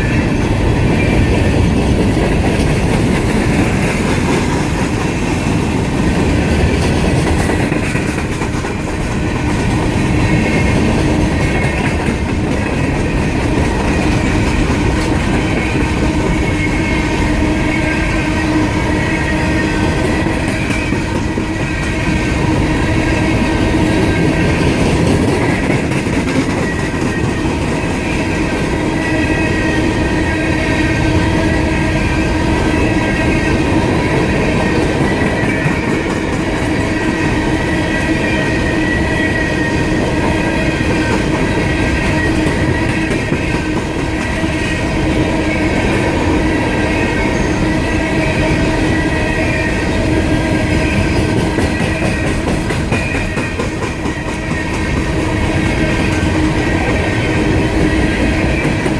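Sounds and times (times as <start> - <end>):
wheels squealing on rails: 0.0 - 58.9.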